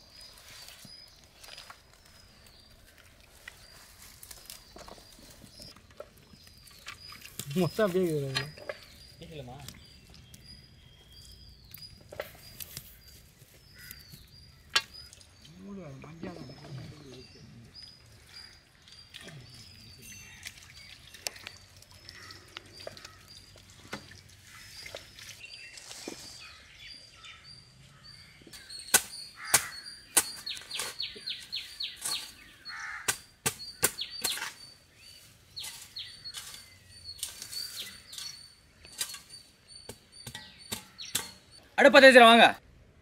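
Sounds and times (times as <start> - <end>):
birds chirping: 0.0 - 42.6.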